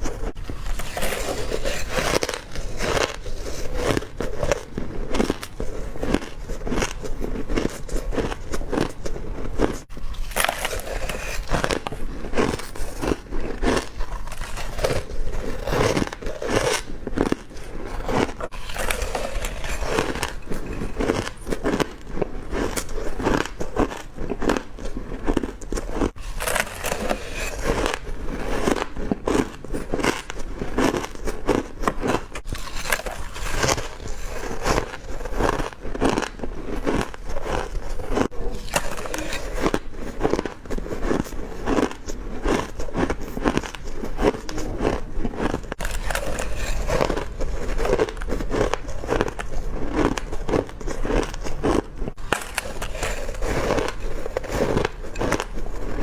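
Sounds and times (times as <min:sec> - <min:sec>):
person crunching ice: 0:00.0 - 0:56.0.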